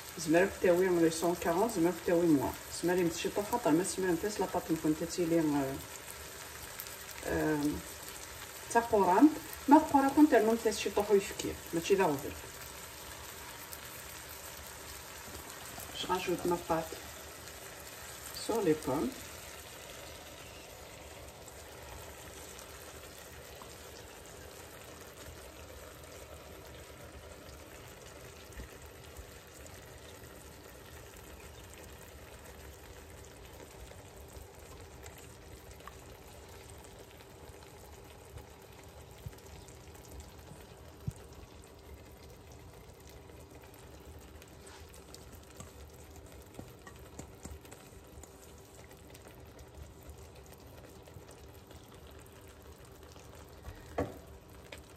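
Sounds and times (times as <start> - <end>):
apple slices sizzling in pan: 0.0 - 54.9.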